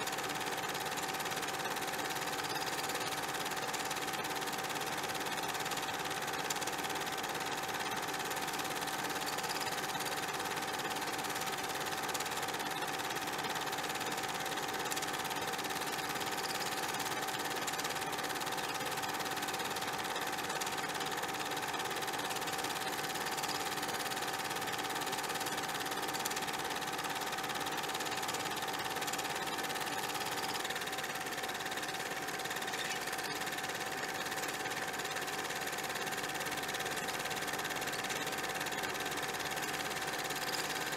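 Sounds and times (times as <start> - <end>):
mechanical whirring hum: 0.0 - 40.9.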